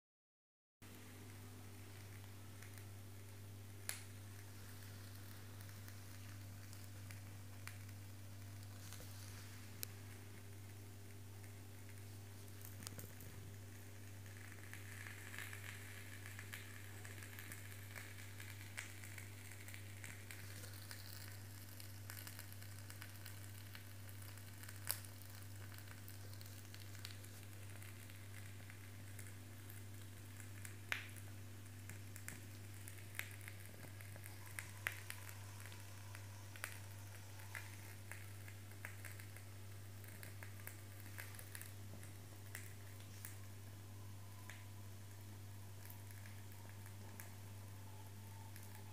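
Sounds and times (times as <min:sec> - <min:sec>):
small flames sizzling and crackling: 0:00.8 - 0:48.9
steady low hum: 0:00.8 - 0:48.9.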